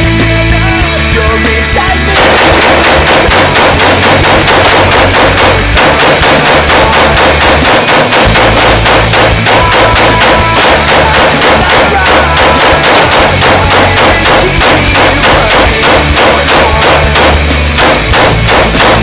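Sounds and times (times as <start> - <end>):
heavy rock music: 0.0 - 19.0
sustained bass line: 0.0 - 19.0
fast drum hits: 2.1 - 19.0.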